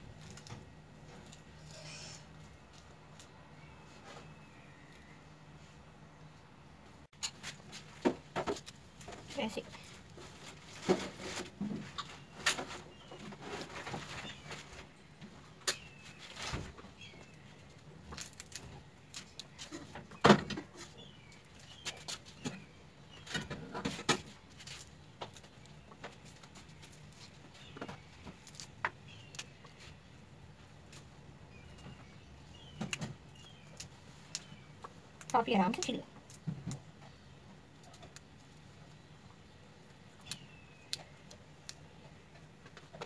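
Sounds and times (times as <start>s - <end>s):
birds chirping faintly: 0.2s - 43.0s.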